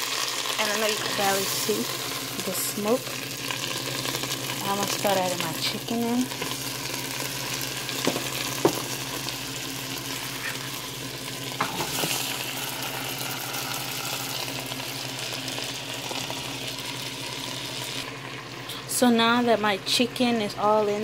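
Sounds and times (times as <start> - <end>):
chicken sizzling in butter: 0.0 - 19.0.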